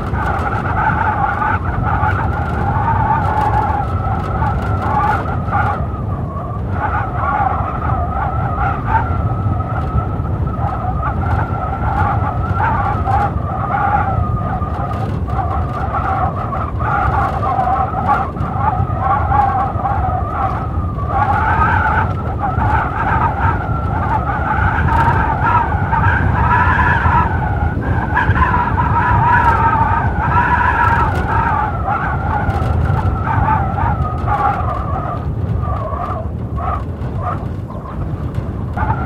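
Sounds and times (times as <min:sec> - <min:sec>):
blizzard wind howling: 0:00.0 - 0:39.0.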